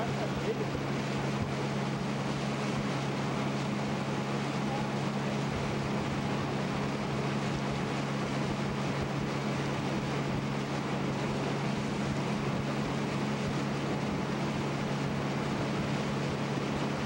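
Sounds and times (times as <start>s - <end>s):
outboard motor droning: 0.0s - 17.0s
rushing water: 0.0s - 17.0s
wind: 0.0s - 17.0s.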